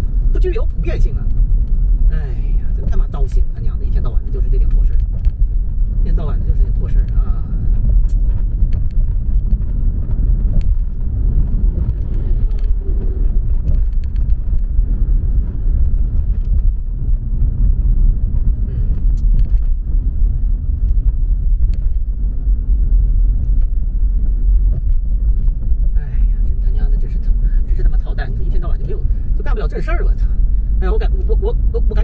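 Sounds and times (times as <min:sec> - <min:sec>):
car interior road rumble: 0:00.0 - 0:32.0.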